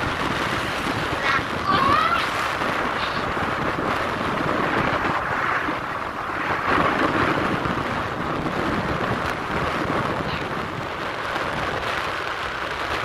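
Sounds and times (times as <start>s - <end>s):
vehicle road noise: 0.0s - 13.0s
wind rushing over microphone: 0.0s - 13.0s.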